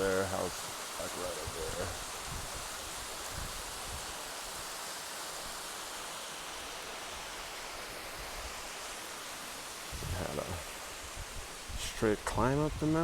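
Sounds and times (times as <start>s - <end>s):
distant waterfall rushing: 0.0s - 13.0s.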